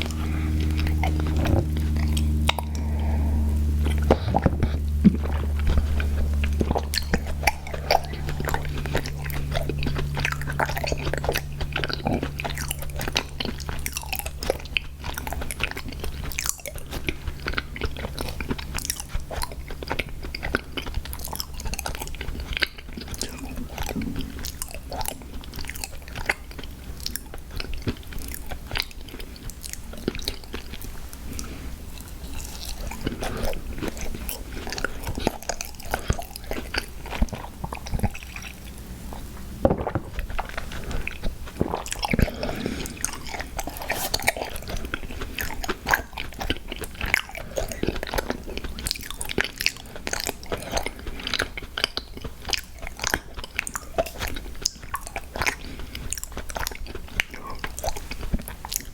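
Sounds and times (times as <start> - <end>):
person chewing and crunching sweets: 0.0 - 58.9.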